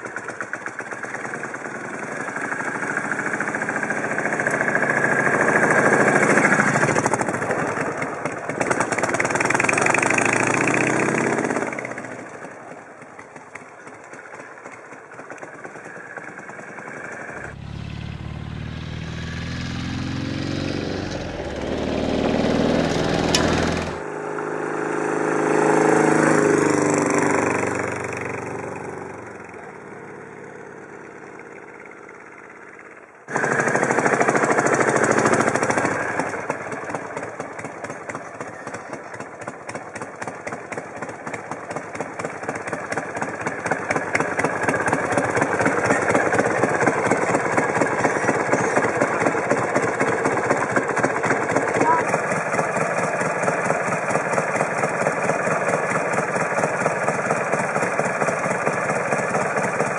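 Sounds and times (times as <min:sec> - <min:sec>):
motorcycle engine idling: 0:00.0 - 0:24.1, 0:26.6 - 0:59.9
motorcycle engine passing by: 0:00.0 - 0:59.9.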